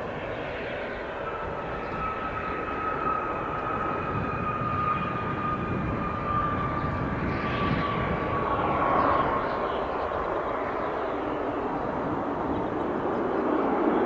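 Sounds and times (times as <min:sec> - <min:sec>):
jet engines whining and rumbling: 0:00.0 - 0:14.0.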